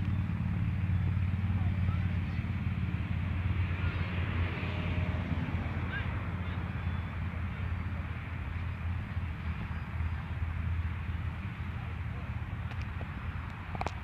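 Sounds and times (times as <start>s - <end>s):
model airplanes droning overhead: 0.0s - 14.0s.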